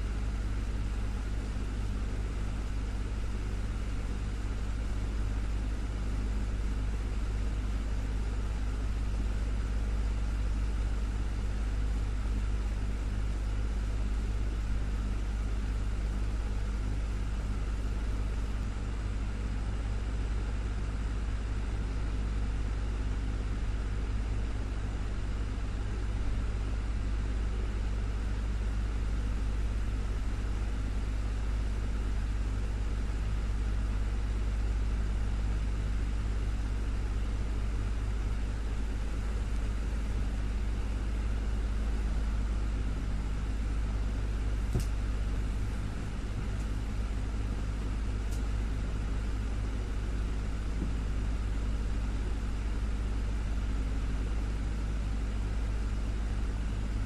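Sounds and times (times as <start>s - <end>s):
desktop fan running: 0.0s - 57.0s.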